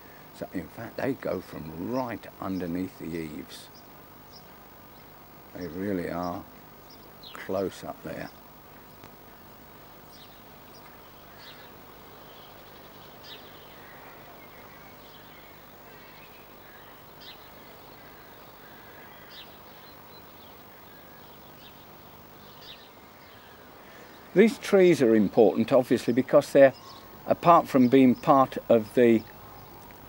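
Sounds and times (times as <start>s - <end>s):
tape hiss: 0.0s - 30.0s.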